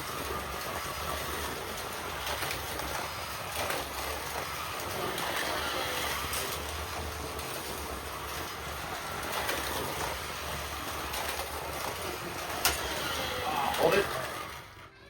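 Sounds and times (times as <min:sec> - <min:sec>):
cars clattering on plastic track: 0:00.0 - 0:15.0
slot car motors whining: 0:00.0 - 0:15.0.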